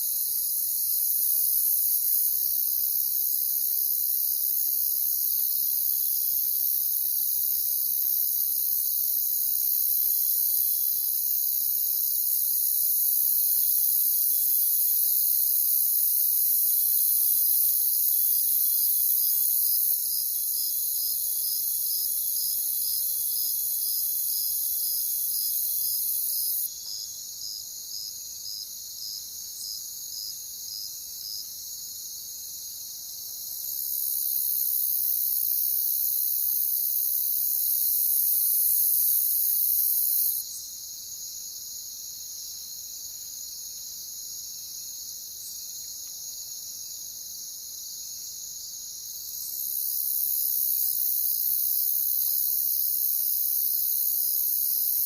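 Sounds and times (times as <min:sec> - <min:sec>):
crickets chirping: 0:00.0 - 0:55.0
single cricket chirps: 0:00.0 - 0:55.0.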